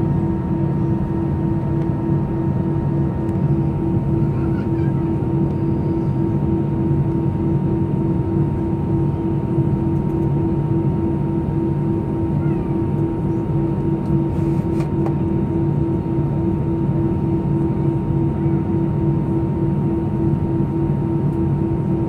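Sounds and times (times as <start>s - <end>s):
jet engines idling: 0.0s - 22.0s.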